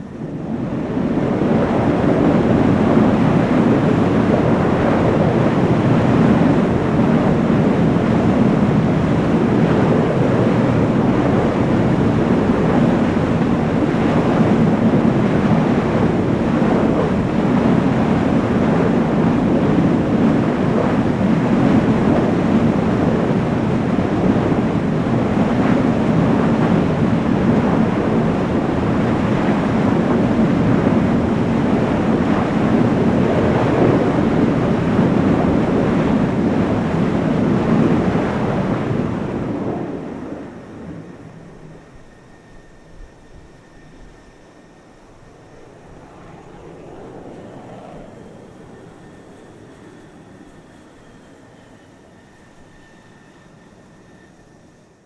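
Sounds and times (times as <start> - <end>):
jet engine rushing: 0.0 - 55.0.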